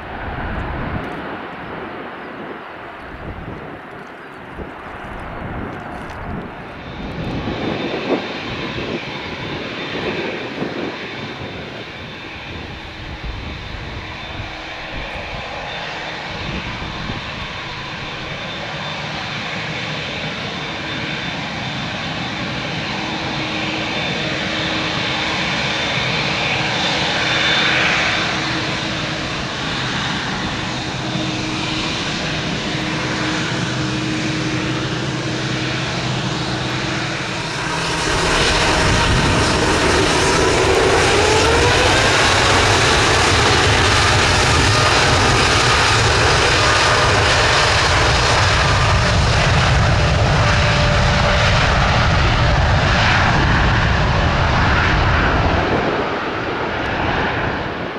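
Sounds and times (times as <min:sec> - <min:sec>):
jet engines taxiing: 0:00.0 - 0:57.9.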